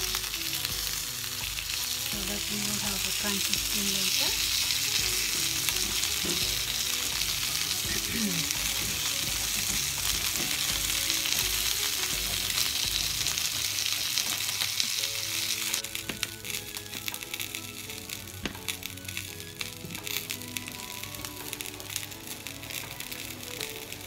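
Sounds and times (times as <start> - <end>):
fish sizzling in a pan: 0.0 - 24.0
soft background music: 0.0 - 24.0.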